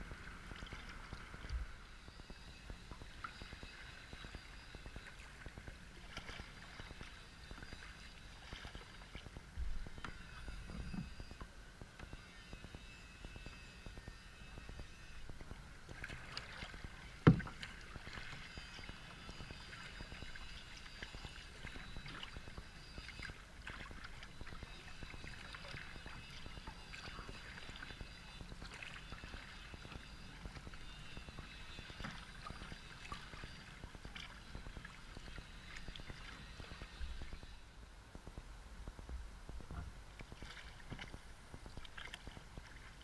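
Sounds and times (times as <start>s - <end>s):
water splashing and lapping: 0.0s - 37.8s, 39.6s - 43.0s
paddle strokes: 0.0s - 43.0s.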